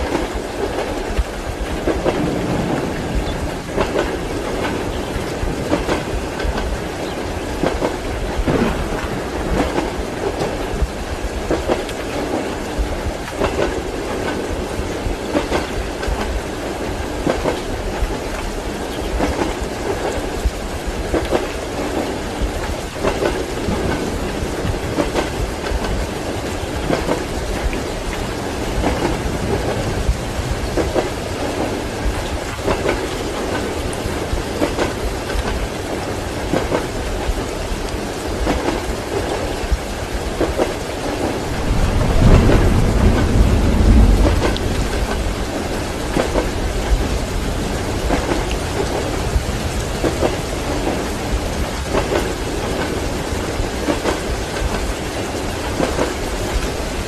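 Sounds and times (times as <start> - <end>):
heavy rain hiss: 0.0 - 57.0
low roll of thunder: 0.0 - 57.0
train wheels clacking on rails: 0.0 - 57.0.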